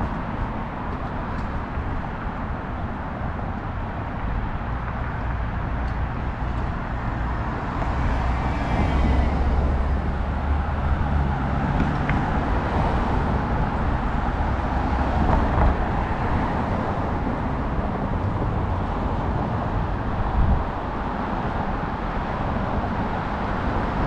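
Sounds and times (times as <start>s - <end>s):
passing road traffic: 0.0s - 24.0s.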